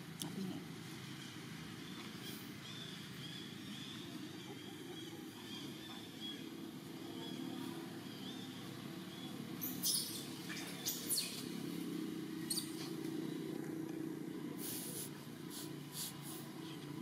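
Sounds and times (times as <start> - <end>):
low engine-like drone: 0.0 - 17.0.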